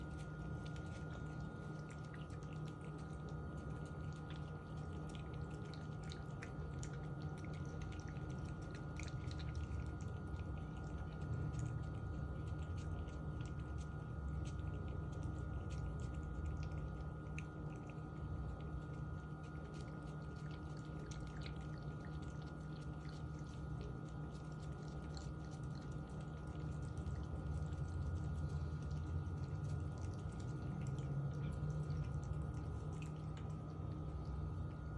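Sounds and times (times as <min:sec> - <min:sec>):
cat chewing and licking: 0:00.0 - 0:34.9
steady low hum: 0:00.0 - 0:34.9.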